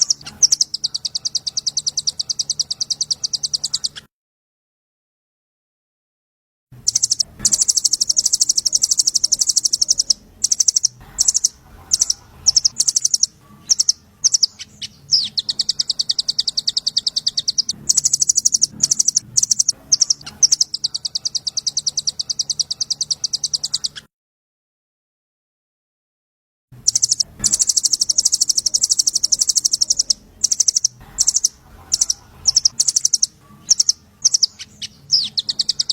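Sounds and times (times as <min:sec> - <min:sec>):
songbird trilling: 0:00.0 - 0:04.0, 0:06.8 - 0:24.0, 0:26.9 - 0:35.9.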